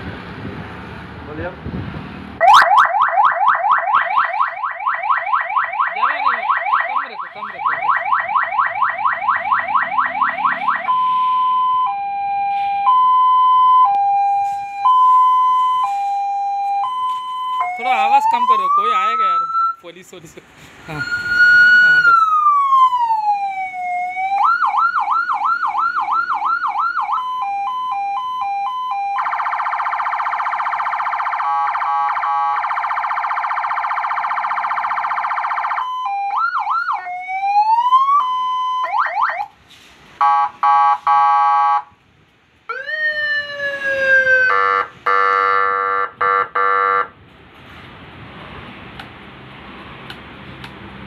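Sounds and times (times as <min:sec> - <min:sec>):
electronic siren changing tones: 0:02.4 - 0:19.8, 0:20.9 - 0:39.5, 0:40.2 - 0:41.9, 0:42.7 - 0:47.2.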